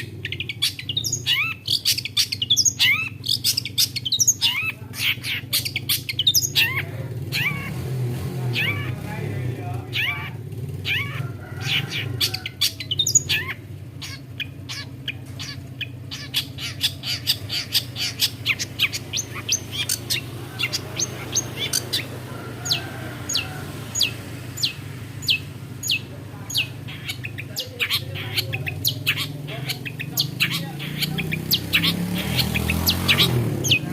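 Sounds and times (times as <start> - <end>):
shrike singing: 0.0 - 33.9.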